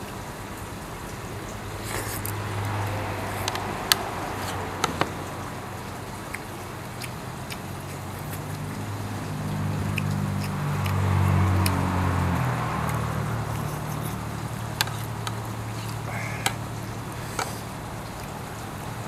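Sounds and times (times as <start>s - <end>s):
vehicle engine passing: 0.0s - 19.0s.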